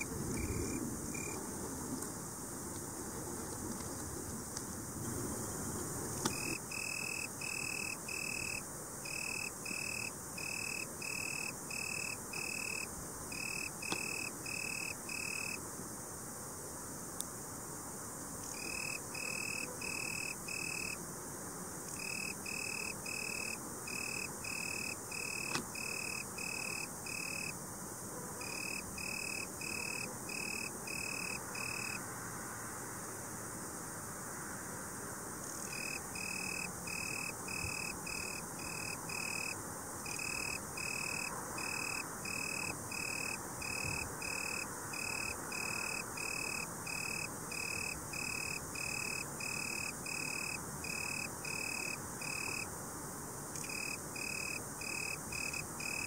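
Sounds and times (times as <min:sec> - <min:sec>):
tree cricket singing: 0:00.0 - 0:56.0.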